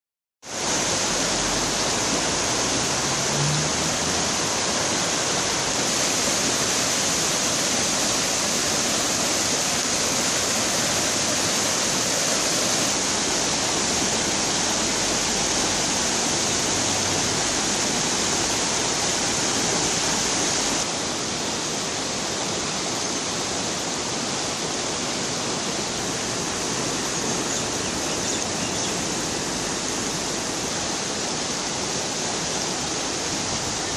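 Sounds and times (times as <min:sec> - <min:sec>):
river rushing over rocks: 0:00.5 - 0:33.9.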